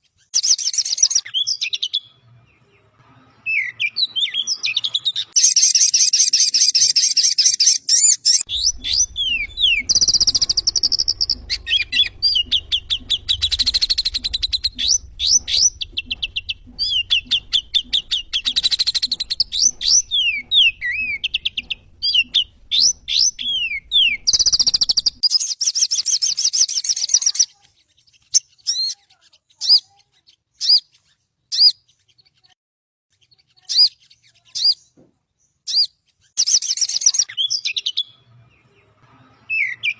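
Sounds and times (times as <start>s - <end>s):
bird chirps and trills: 0.2s - 32.5s, 33.1s - 39.9s.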